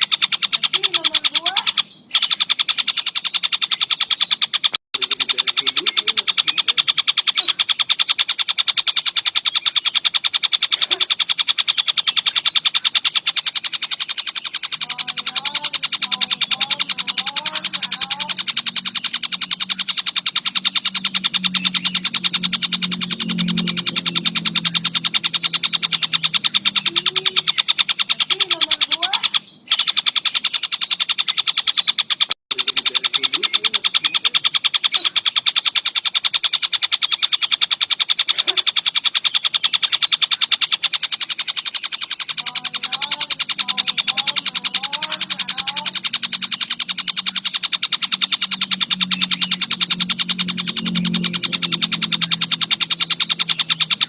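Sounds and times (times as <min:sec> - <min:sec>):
kingfisher chattering call: 0:00.0 - 0:54.0.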